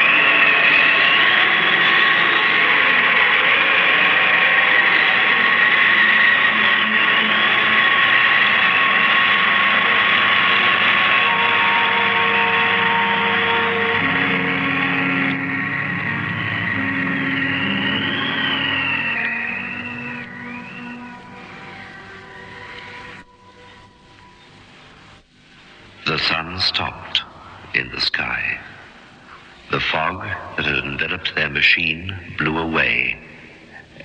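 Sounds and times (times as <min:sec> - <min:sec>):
whining tones: 0:00.0 - 0:31.4
electronic hissing drone: 0:00.0 - 0:34.0.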